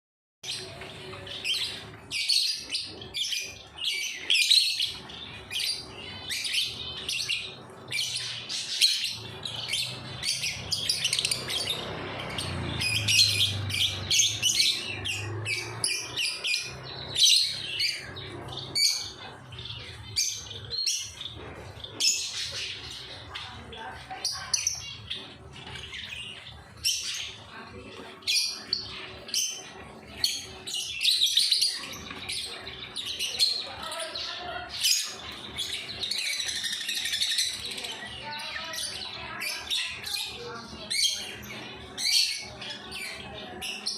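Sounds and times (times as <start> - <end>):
birds chirping and squawking: 0.4 - 43.9.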